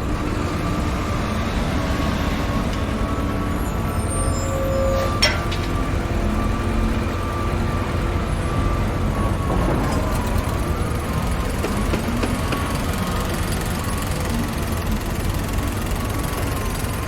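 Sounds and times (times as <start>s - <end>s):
heavy machinery engines rumbling: 0.0s - 17.0s.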